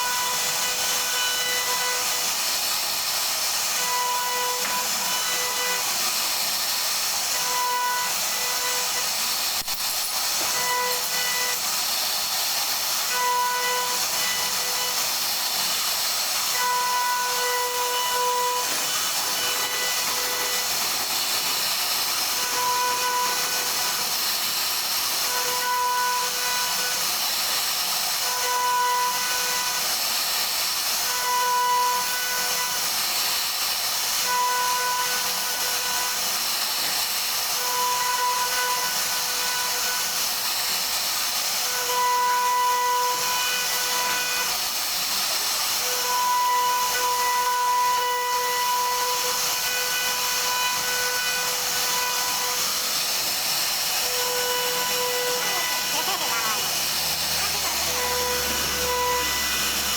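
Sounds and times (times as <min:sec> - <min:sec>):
router spindle cutting wood: 0:00.0 - 0:59.9.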